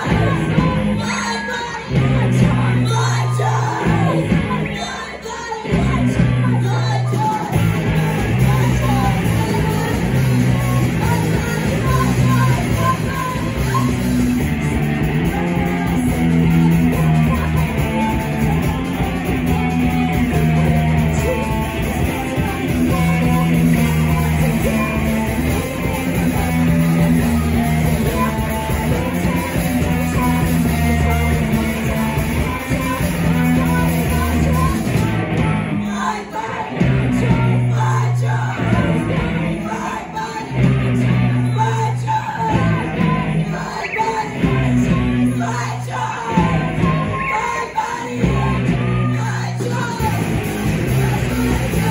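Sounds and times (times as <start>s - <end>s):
bass guitar: 0.0s - 51.9s
electric guitars: 0.0s - 51.9s
woman singing: 0.0s - 51.9s
drum kit: 5.6s - 51.9s.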